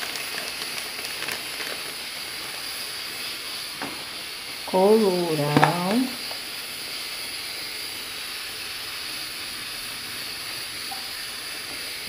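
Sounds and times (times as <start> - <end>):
chicken frying in a pot: 0.0 - 12.0.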